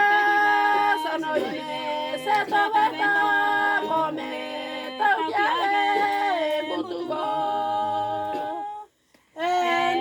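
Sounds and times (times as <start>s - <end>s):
women singing a cappella: 0.0s - 10.0s.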